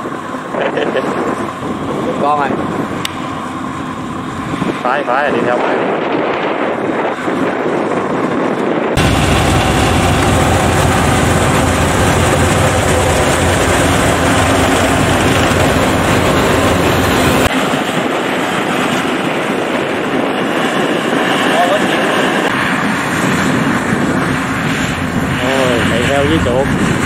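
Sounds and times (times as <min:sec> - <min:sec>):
combine harvester engine drone: 0:00.0 - 0:06.0, 0:09.0 - 0:27.0.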